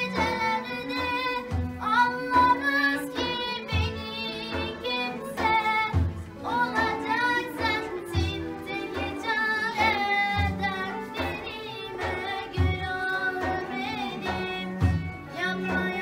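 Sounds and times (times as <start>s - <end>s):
instrumental backing: 0.0s - 16.0s
person singing folk song: 0.0s - 16.0s.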